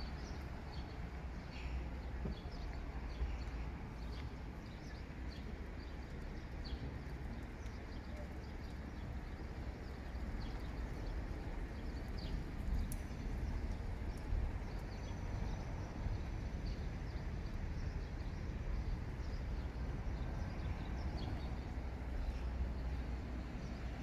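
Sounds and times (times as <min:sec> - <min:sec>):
faint high chirps and ticks: 0:00.0 - 0:22.5
steady low rumble: 0:00.0 - 0:24.0.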